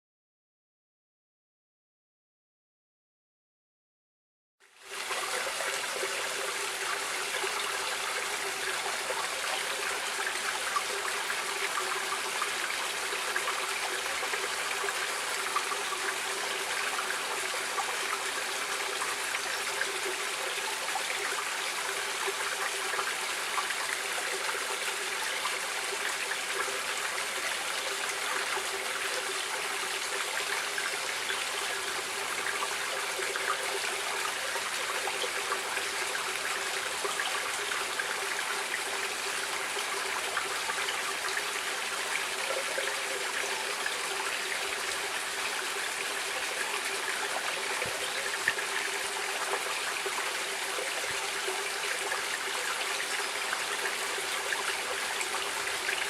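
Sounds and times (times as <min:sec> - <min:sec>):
stream water running: 0:04.6 - 0:56.0.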